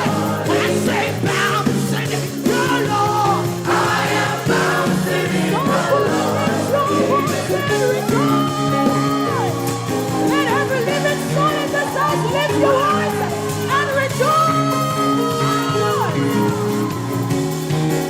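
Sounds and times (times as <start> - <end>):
person singing: 0.0 - 16.9
choir singing: 0.0 - 18.0
live band playing: 0.0 - 18.0.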